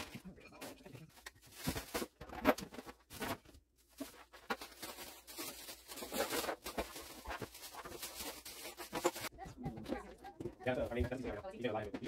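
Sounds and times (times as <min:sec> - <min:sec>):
household items rustling in boxes: 0:00.0 - 0:12.0.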